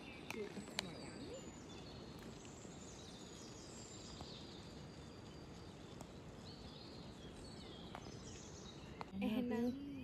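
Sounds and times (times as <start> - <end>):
low background hiss: 0.0 - 10.0
small birds chirping faintly: 0.0 - 10.0.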